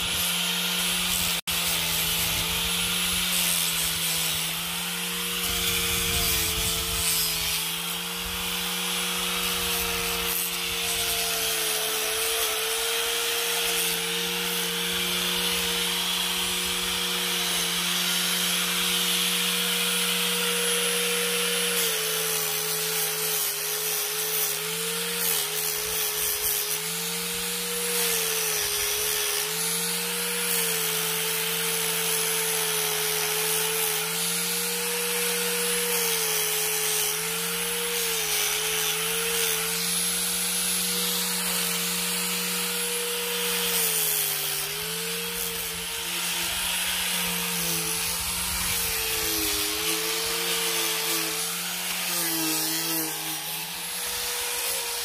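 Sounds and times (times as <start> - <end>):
angle grinder sanding wood: 0.0 - 55.0.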